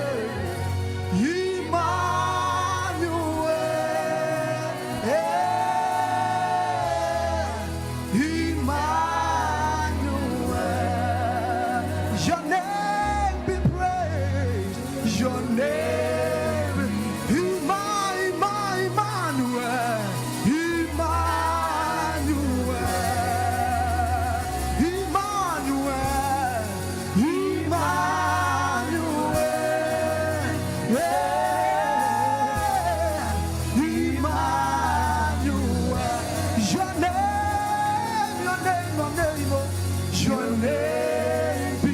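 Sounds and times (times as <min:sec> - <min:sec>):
gospel singing: 0:00.0 - 0:41.9
steady bass line: 0:00.0 - 0:41.9.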